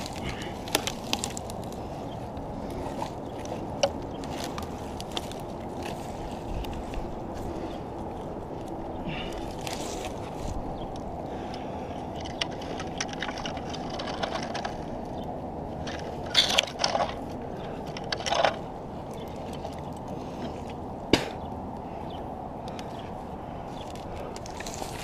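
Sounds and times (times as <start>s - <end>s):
low background rumble: 0.0s - 25.0s
scrapes and rustles of bark: 0.0s - 25.0s.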